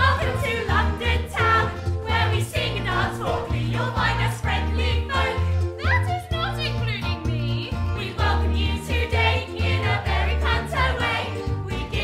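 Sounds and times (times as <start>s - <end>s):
stage musical music: 0.0s - 12.0s.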